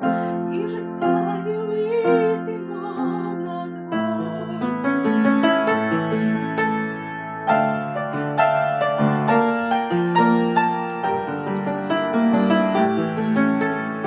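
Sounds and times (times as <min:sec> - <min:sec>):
piano playing: 0:00.0 - 0:14.0.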